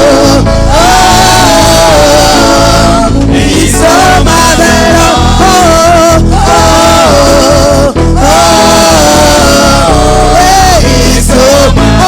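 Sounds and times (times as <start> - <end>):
band playing gospel music: 0.0 - 12.0
voices singing held notes: 0.0 - 12.0.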